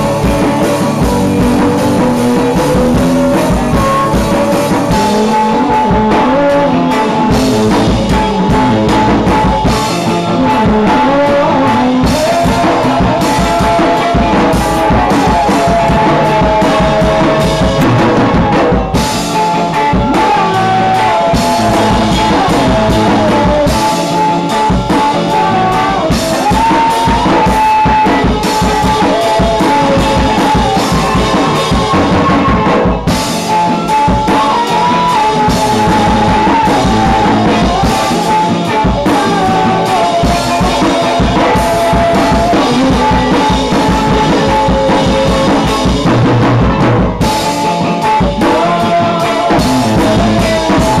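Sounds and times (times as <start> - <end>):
amplified electric guitars: 0.0 - 51.0
drum kit with cymbal hits: 0.0 - 51.0.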